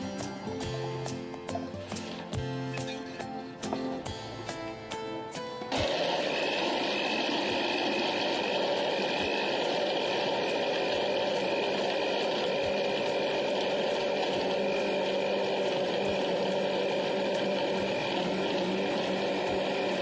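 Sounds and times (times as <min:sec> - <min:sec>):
blender running: 0:00.0 - 0:02.4, 0:05.7 - 0:20.0.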